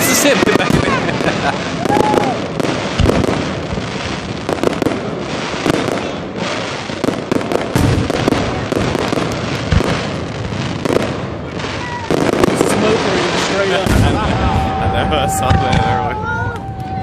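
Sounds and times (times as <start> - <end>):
fireworks bangs and crackles: 0.0 - 17.0
heavy fireworks booms: 0.0 - 17.0.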